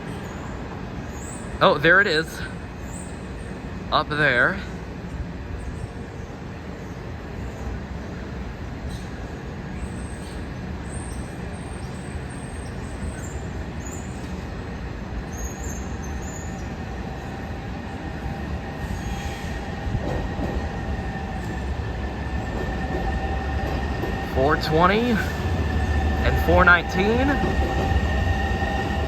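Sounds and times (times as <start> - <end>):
train rumbling into station: 0.0 - 29.0.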